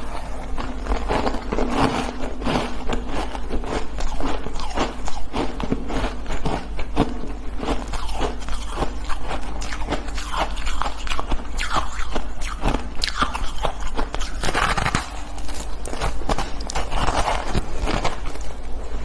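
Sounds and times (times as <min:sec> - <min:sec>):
crunching shaved ice: 0:00.0 - 0:18.9.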